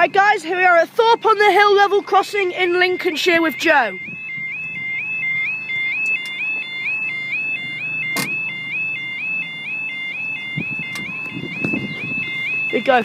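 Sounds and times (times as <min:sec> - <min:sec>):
level crossing alarm: 0:00.0 - 0:13.0.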